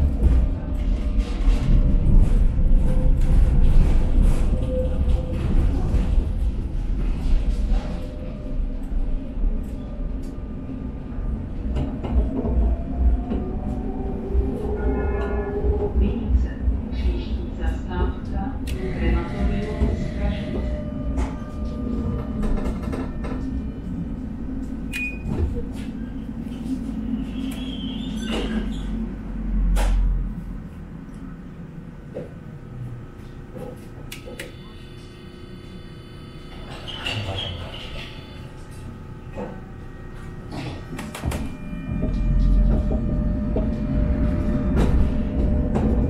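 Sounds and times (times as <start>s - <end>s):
tram rumbling on rails: 0.0s - 46.0s.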